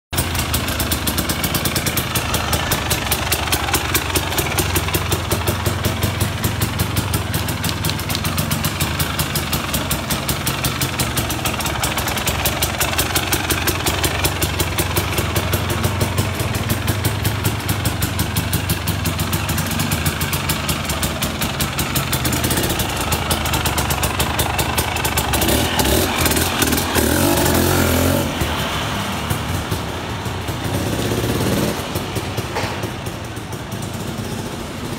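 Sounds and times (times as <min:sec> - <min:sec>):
dirt bike engine idling and revving: 0:00.2 - 0:34.9.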